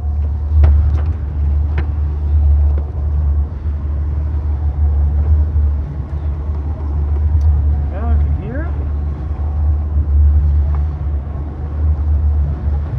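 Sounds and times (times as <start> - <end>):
motorboat engine rumbling: 0.0 - 12.9.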